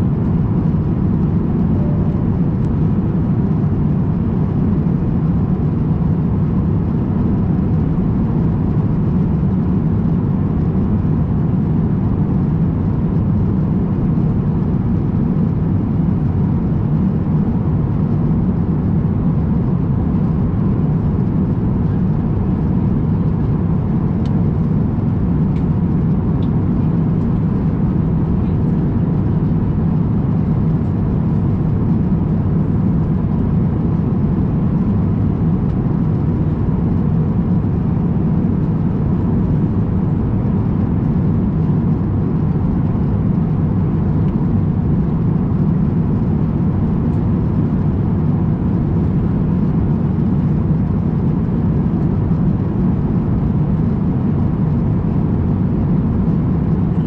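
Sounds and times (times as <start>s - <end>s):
airliner cabin rumble: 0.0s - 57.0s
faint high hum: 0.0s - 57.0s.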